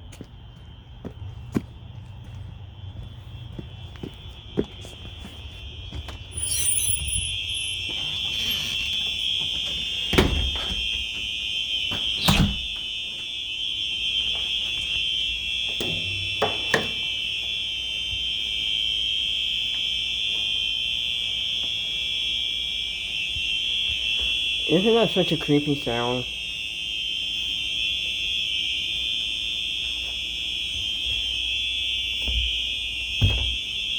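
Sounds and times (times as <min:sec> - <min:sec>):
fire alarm high tone: 0:00.0 - 0:33.9.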